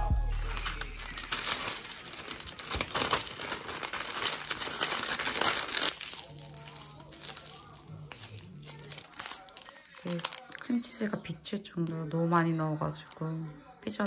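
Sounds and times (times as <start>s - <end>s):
parchment paper crinkling: 0.0s - 14.0s.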